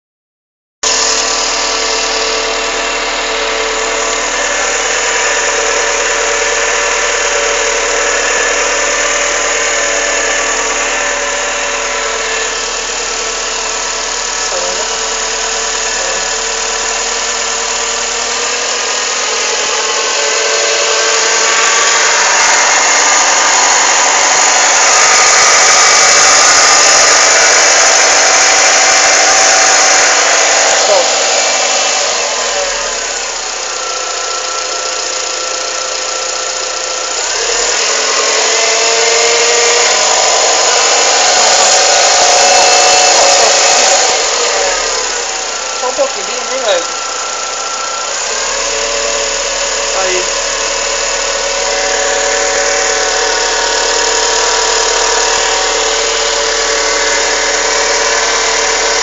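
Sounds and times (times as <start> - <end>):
car engine running: 0.8 - 59.0
steady whining tones: 0.9 - 59.0.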